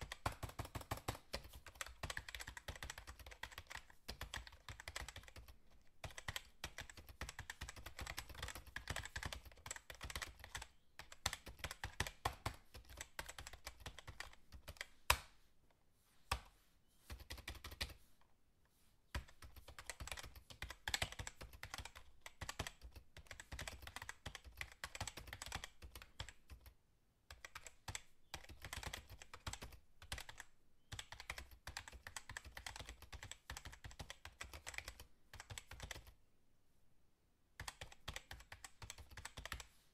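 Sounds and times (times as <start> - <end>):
fast typing on keyboard: 0.0 - 14.9, 17.1 - 18.0, 19.1 - 26.7, 27.3 - 36.2, 37.6 - 39.7.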